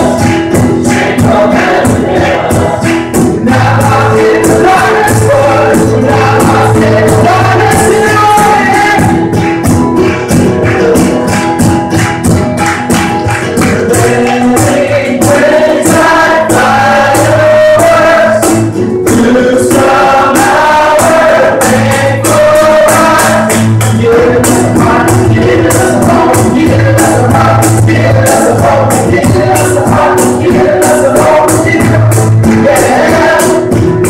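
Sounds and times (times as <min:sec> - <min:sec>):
voices singing together: 0:00.0 - 0:11.4, 0:12.8 - 0:34.0
cajon beat: 0:00.0 - 0:34.0
strummed acoustic guitar: 0:00.0 - 0:34.0.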